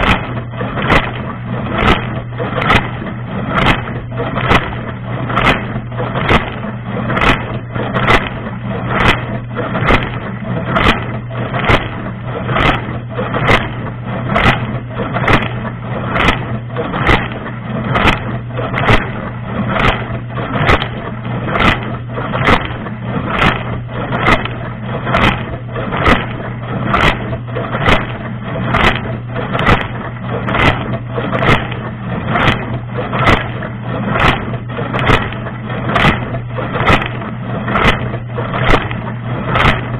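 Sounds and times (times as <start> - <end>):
dishwasher pump motor hum: 0.0 - 39.9
water beating against microphone: 0.0 - 39.9.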